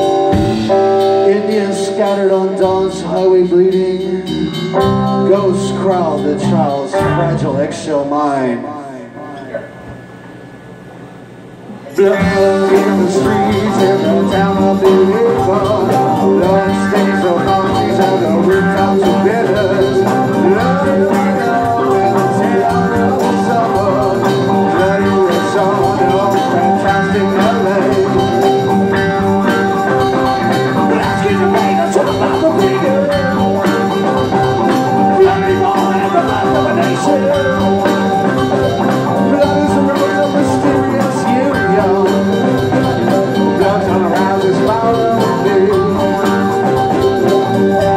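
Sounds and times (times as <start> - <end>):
drum kit: 0.0 - 10.4, 11.7 - 47.9
electric guitars: 0.0 - 47.9
keyboard: 0.0 - 47.9.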